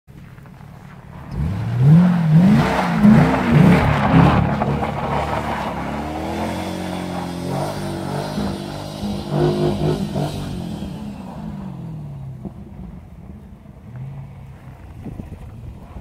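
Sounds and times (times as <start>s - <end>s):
tyres spinning on snow: 0.1s - 16.0s
car engine revving: 1.1s - 16.0s.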